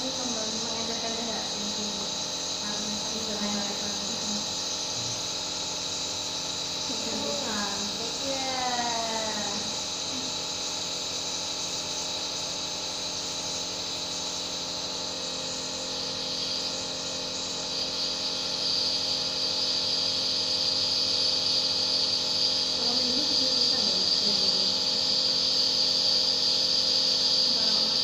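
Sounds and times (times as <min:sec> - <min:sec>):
nebulizer hum and hiss: 0:00.0 - 0:28.0.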